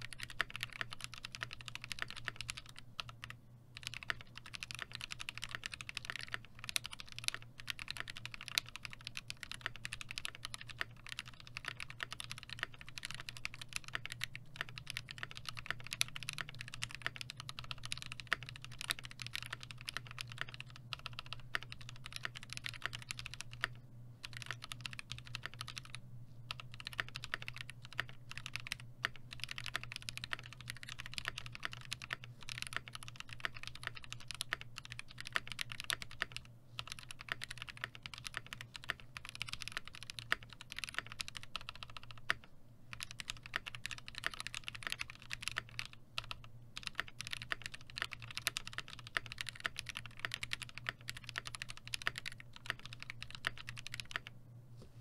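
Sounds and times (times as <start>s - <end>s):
mechanical keyboard typing: 0.0s - 54.3s.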